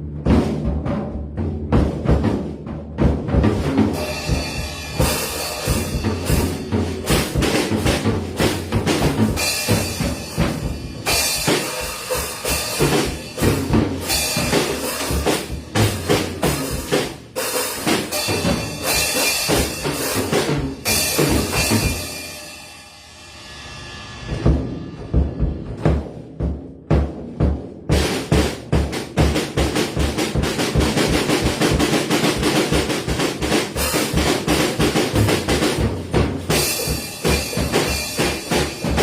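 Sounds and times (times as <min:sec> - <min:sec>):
drum kit played hard: 0:00.0 - 0:39.0.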